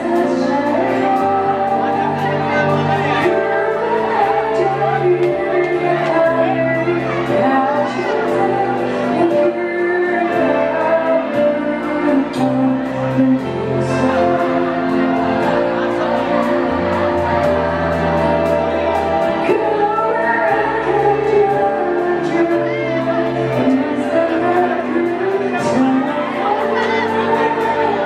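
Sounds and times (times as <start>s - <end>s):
woman singing: 0.0s - 17.4s, 18.0s - 28.0s
bass notes: 0.0s - 28.0s
drums: 0.0s - 28.0s
keyboards: 0.0s - 28.0s.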